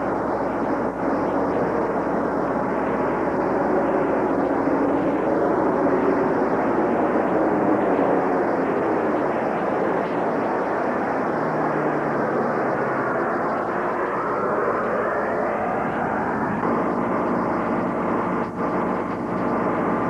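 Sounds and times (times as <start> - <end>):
turboprop aircraft engine drone: 0.0 - 20.0.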